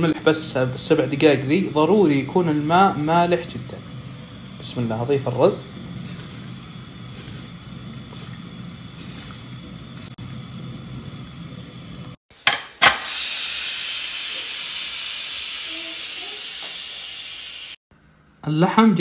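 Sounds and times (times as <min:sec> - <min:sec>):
steam hissing from valve: 0:00.0 - 0:17.8.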